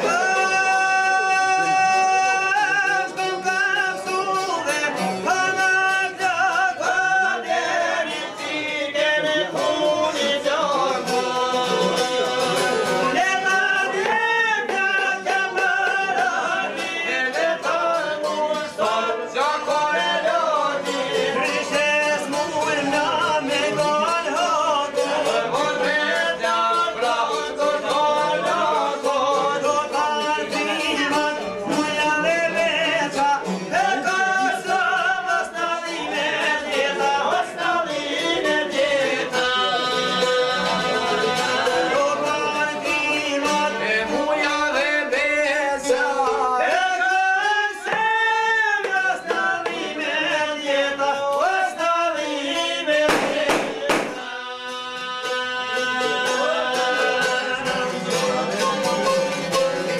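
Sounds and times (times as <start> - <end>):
man singing folk song: 0.0 - 59.9
plucked lute: 0.0 - 59.9.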